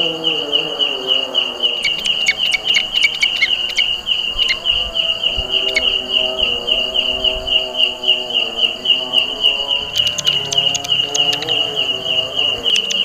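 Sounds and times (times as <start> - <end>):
katydid shrill chirping: 0.4 - 13.0.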